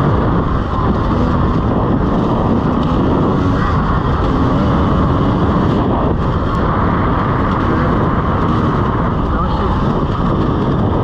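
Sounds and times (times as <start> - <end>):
dirt bike engine running: 0.0 - 11.0
wind noise on microphone: 0.0 - 11.0.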